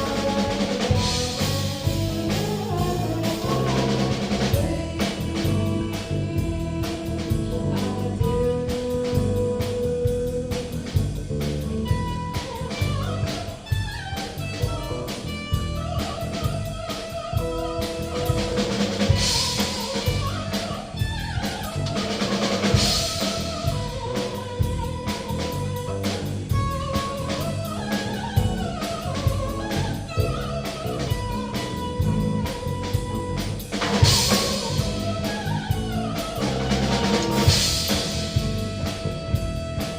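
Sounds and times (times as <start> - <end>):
drum kit steady beat: 0.0 - 39.9
instrumental rock band playing: 0.0 - 39.9.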